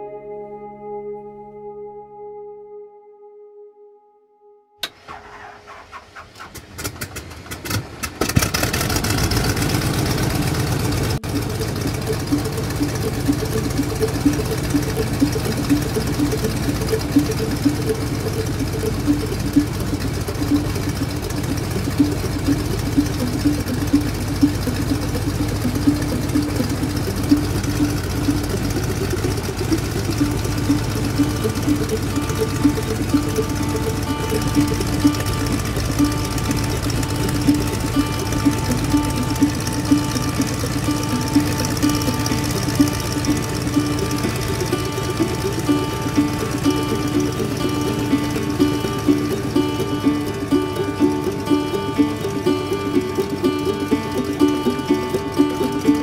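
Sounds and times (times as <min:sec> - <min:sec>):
car engine droning: 0:04.8 - 0:56.0
tyres ticking on gravel: 0:09.3 - 0:56.0.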